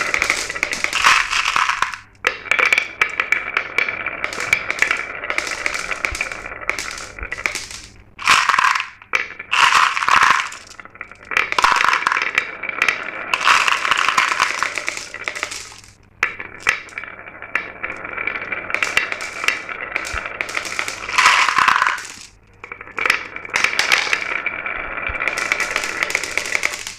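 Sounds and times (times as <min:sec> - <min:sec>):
marbles rolling and clattering: 0:00.0 - 0:26.9.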